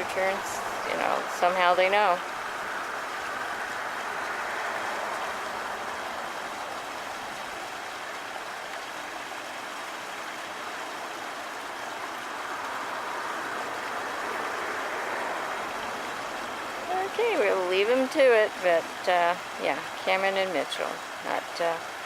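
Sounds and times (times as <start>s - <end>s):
water rushing over small waterfall: 0.0s - 22.0s.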